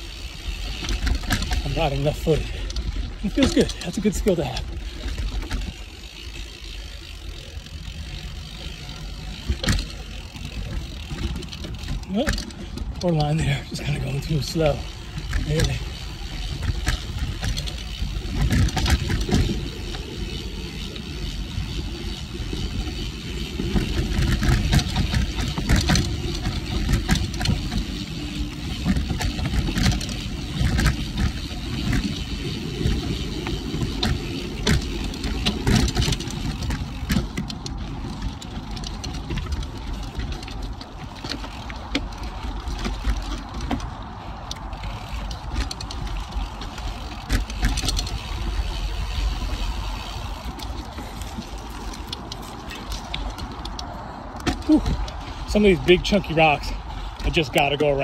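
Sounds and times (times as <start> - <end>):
bike rattling and knocking: 0.0 - 58.0
bike tyres on dirt and rock: 0.0 - 58.0.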